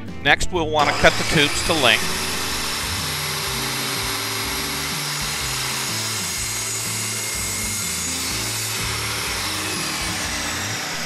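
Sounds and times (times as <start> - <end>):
background music: 0.0 - 11.0
chop saw cutting metal: 0.8 - 11.0.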